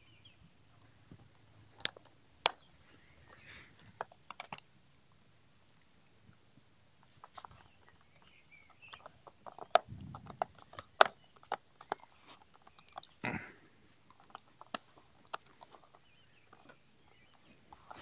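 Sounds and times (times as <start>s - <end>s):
dog chewing wooden stick: 0.8s - 18.0s.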